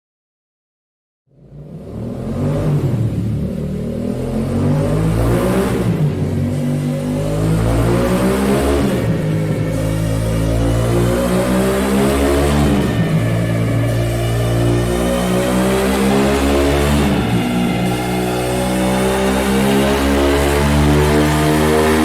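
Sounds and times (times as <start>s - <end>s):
motorcycle engine revving: 1.4s - 22.0s.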